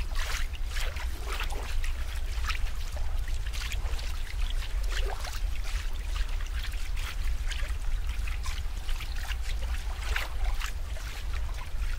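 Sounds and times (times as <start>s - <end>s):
water trickling and splashing: 0.0s - 11.9s.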